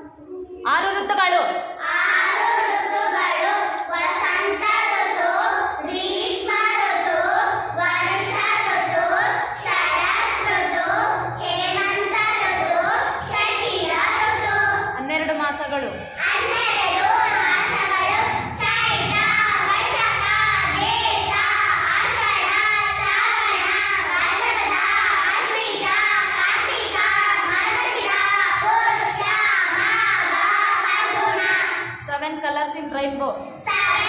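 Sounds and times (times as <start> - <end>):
girls singing in unison: 1.8 - 15.0, 16.0 - 32.1, 33.6 - 34.0.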